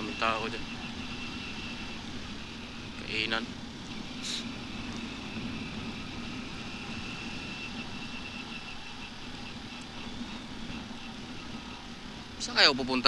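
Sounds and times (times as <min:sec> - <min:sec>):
faint high whine: 0:00.0 - 0:13.0
motorcycle engine running: 0:00.0 - 0:13.0.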